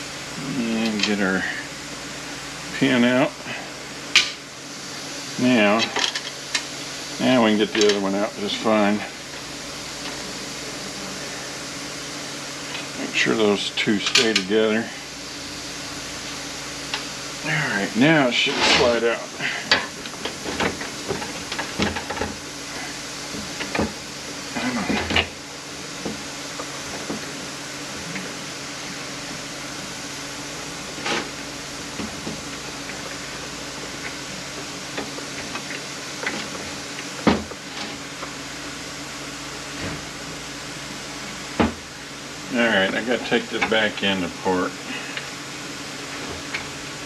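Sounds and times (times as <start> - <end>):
steady hum and hiss: 0.0 - 47.0.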